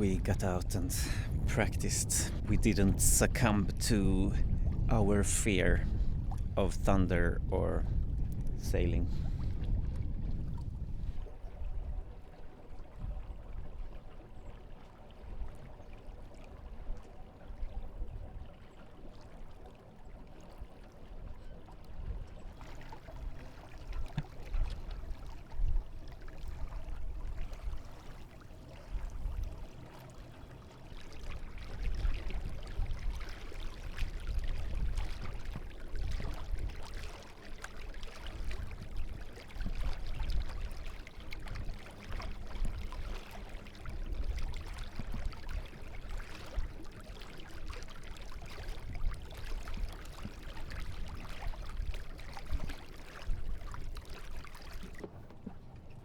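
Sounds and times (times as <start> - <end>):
water rushing along hull: 0.0 - 56.0.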